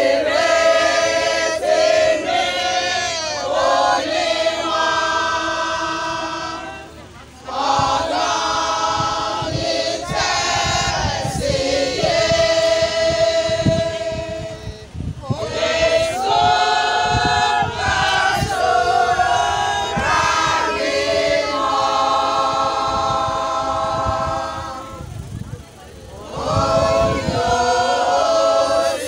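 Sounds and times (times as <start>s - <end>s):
women's choir singing a hymn: 0.0s - 29.0s.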